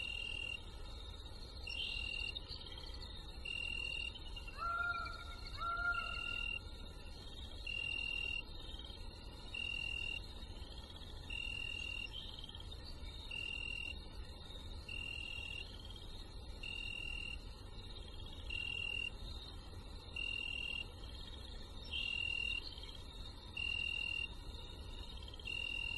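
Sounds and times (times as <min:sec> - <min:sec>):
high-pitched insect call: 0:00.0 - 0:25.9.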